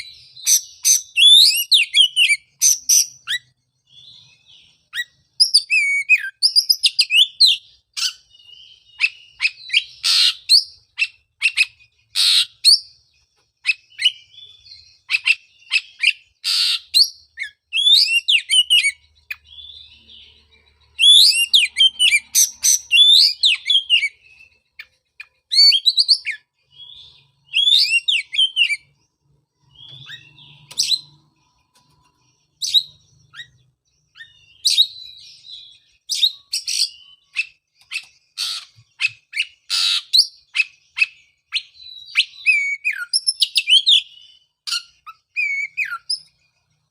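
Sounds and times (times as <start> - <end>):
songbird singing whistles and chirps: 0.0 - 46.9.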